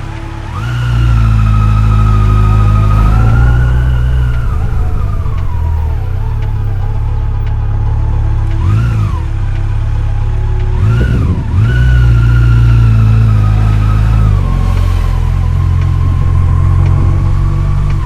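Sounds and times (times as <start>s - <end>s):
motorcycle engine revving: 0.6s - 18.0s.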